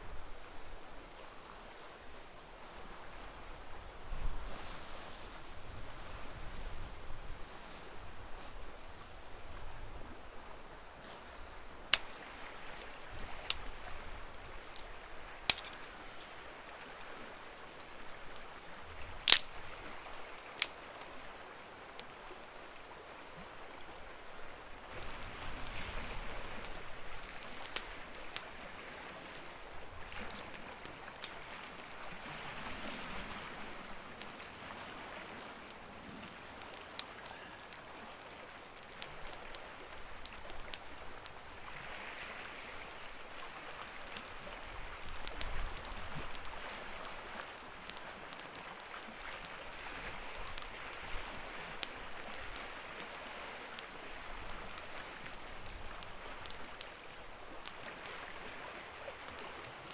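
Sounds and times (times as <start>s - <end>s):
campfire crackling: 1.7s - 59.9s
fire popping: 11.6s - 59.9s.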